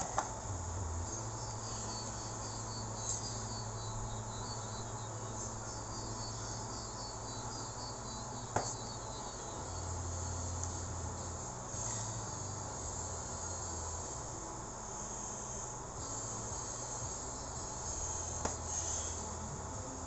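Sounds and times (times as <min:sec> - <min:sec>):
insects chirring: 0:00.0 - 0:20.0
low steady hum: 0:00.0 - 0:20.0.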